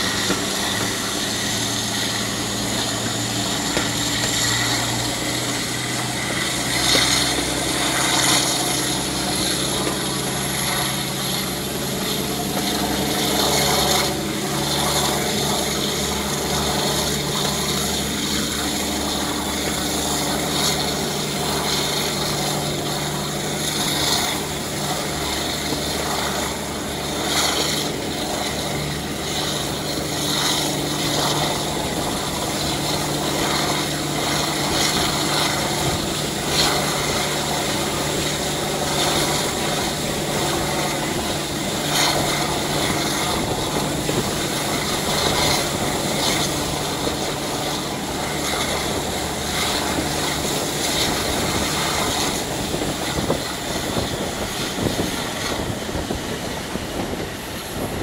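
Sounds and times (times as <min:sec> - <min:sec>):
diesel locomotive engine drone: 0:00.0 - 0:58.0
wind rush: 0:00.0 - 0:58.0.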